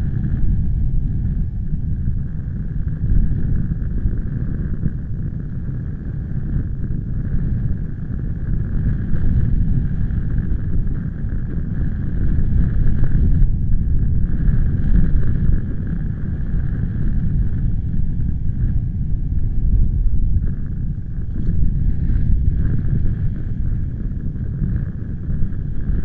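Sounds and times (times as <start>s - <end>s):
wind blowing across microphone: 0.0s - 26.0s.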